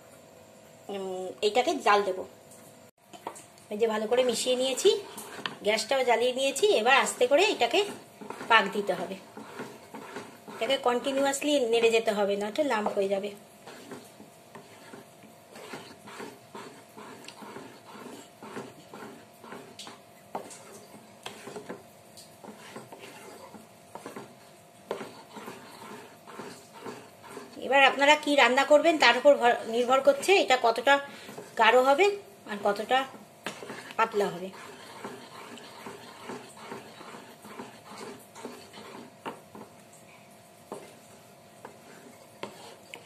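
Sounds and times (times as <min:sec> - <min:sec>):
wooden spatula scraping metal pan: 0:04.0 - 0:39.7, 0:40.7 - 0:43.0.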